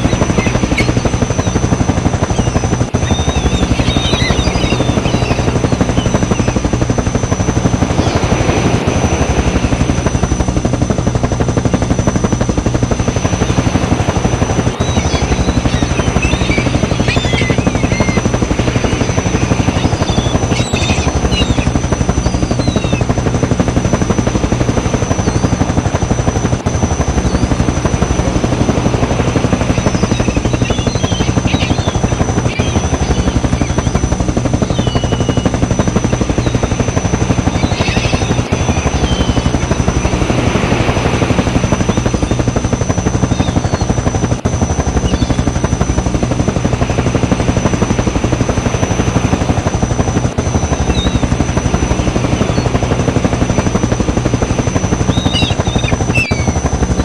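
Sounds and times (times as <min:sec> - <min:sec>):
engine drone: 0:00.0 - 0:57.0
helicopter rotor chopping: 0:00.0 - 0:57.0
high whine: 0:00.0 - 0:57.0.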